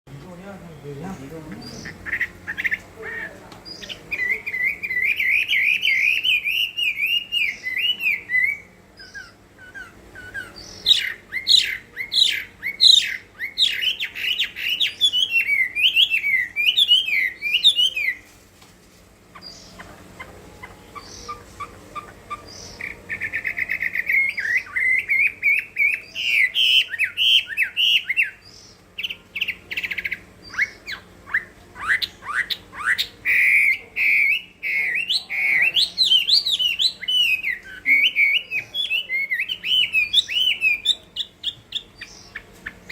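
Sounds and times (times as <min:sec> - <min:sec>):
bird whistling song: 0:03.7 - 0:18.2, 0:20.6 - 0:42.9.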